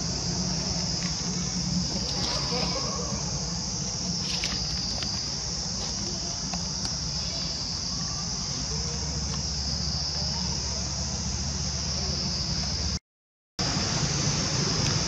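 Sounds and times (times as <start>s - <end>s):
insects droning: 0.0s - 13.0s, 13.6s - 15.0s.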